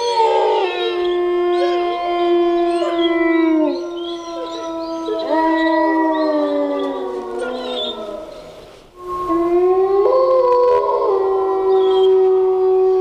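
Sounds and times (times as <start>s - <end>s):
wolves howling in chorus: 0.0s - 13.0s.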